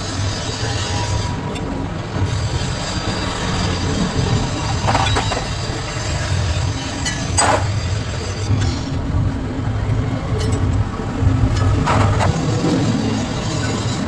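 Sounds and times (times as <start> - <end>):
vehicle rumbling: 0.0 - 14.0.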